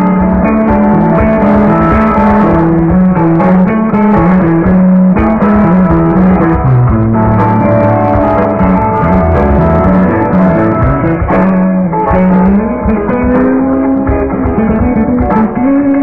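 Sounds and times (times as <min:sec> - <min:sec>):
bass guitar: 0:00.0 - 0:16.0
drums: 0:00.0 - 0:16.0
electric guitar melody: 0:00.0 - 0:16.0.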